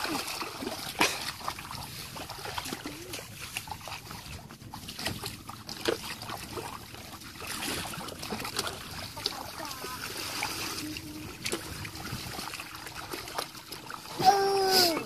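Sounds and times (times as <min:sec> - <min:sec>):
splashing in shallow muddy water: 0:00.0 - 0:15.0.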